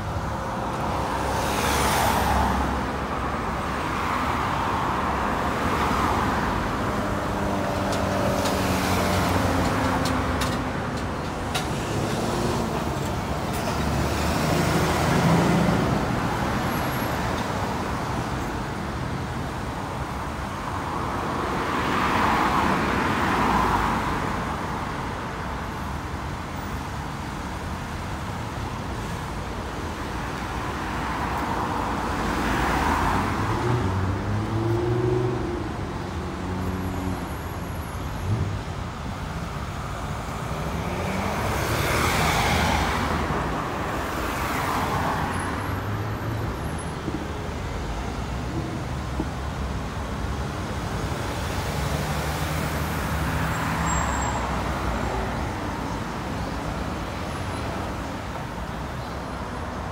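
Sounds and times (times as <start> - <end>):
steady traffic hum: 0.0 - 59.9
vehicles driving by: 0.0 - 59.9.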